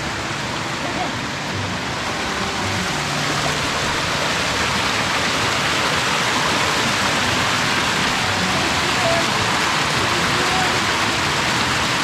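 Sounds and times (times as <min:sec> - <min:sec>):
water rushing in creek: 0:00.0 - 0:12.0.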